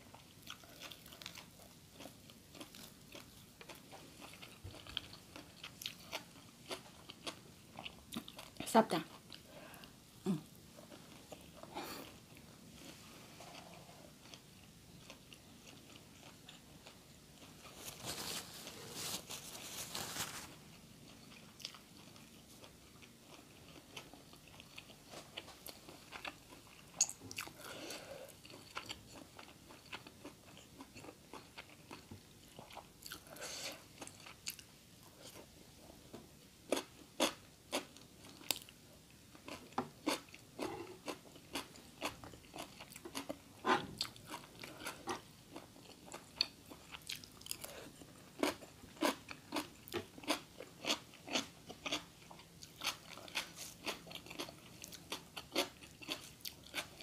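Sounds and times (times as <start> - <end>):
person chewing food: 0.0 - 19.4, 20.4 - 57.0.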